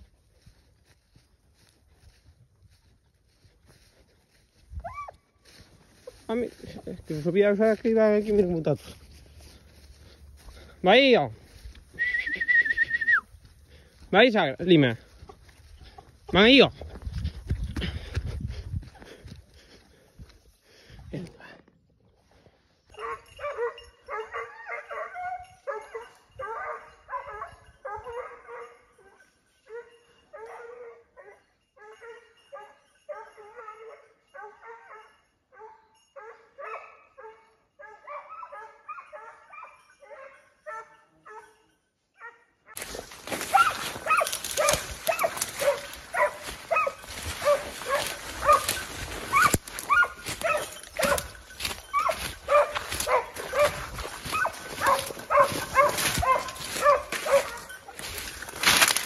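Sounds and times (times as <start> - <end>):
hounds baying and barking: 0.0 - 14.0, 14.9 - 18.1, 22.4 - 59.0.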